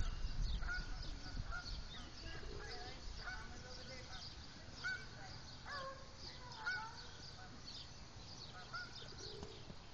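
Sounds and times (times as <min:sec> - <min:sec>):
bird calls rising and falling: 0:00.0 - 0:09.9.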